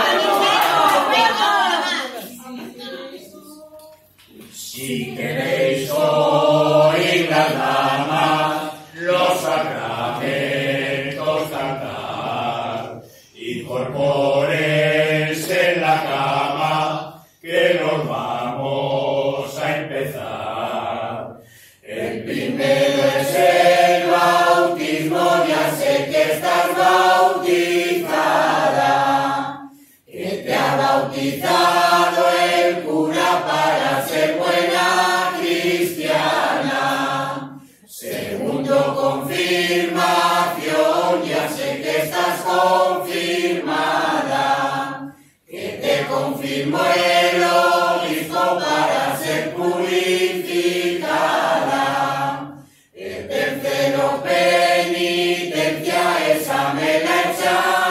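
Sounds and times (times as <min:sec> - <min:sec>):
mixed choir singing: 0:00.0 - 0:03.7, 0:04.4 - 0:57.9.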